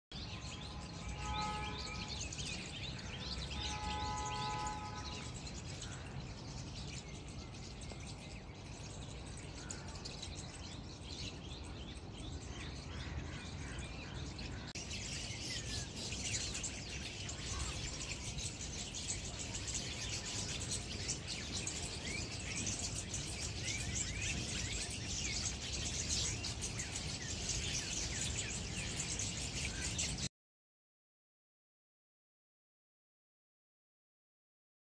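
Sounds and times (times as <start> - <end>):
birds chirping: 0.1 - 30.3.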